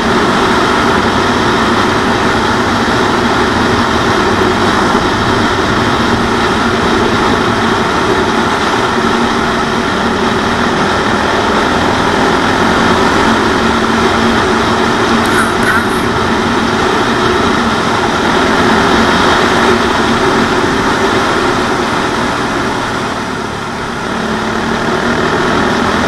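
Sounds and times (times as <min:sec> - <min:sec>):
motorcycle engine running: 0:00.0 - 0:26.0
road noise: 0:00.0 - 0:26.0
rushing wind: 0:00.0 - 0:26.0.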